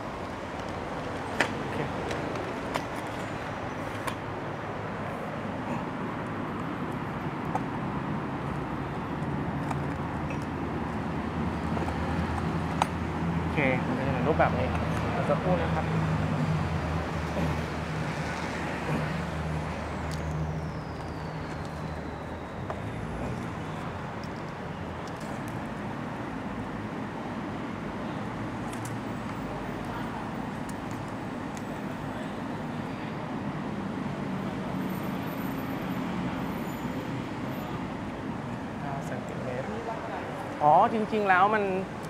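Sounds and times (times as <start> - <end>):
background traffic noise: 0.0 - 42.0.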